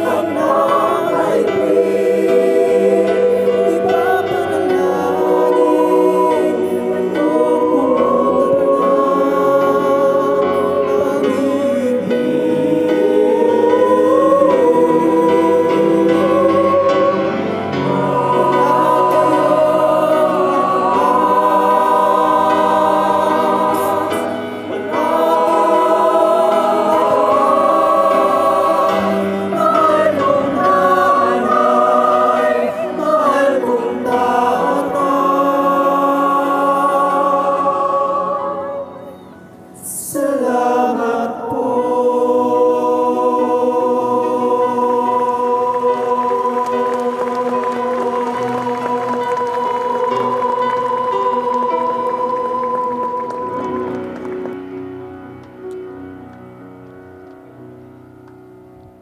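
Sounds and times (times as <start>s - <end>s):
choir singing: 0.0s - 59.0s
musical accompaniment: 0.0s - 59.0s.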